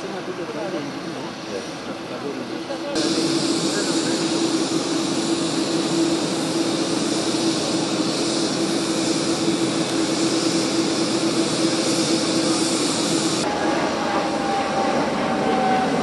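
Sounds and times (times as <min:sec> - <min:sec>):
jet engine whine and hiss: 0:00.0 - 0:16.0.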